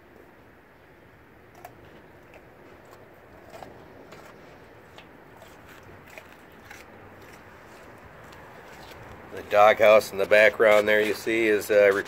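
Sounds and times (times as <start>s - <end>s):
dog chewing crisp pepper: 1.4s - 12.0s.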